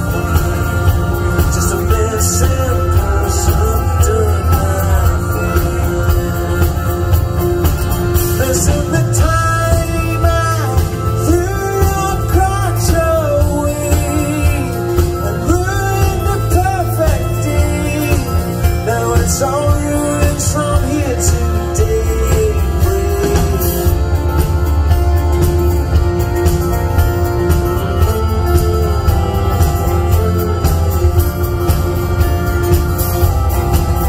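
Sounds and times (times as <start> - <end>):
pitch-bending melody line: 0.0 - 34.0
rock band playing live: 0.0 - 34.0.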